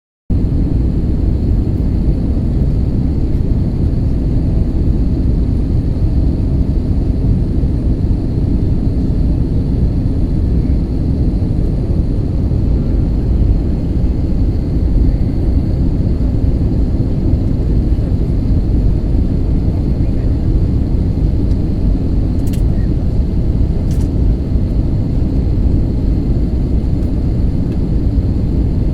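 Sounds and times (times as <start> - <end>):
airliner engine rumble: 0.3 - 28.9.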